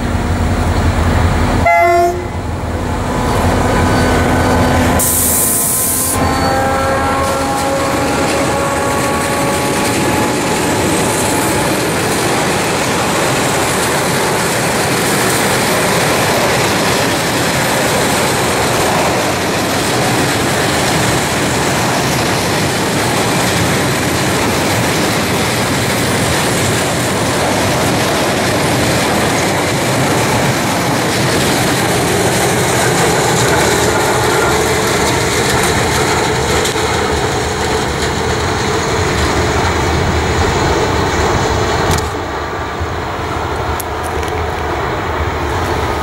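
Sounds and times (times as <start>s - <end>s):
train wheels running on rails: 0.0s - 46.0s.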